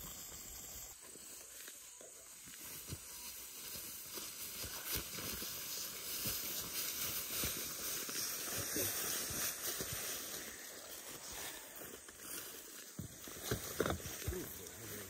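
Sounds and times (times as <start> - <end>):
footsteps through dry grass: 0.0 - 15.0.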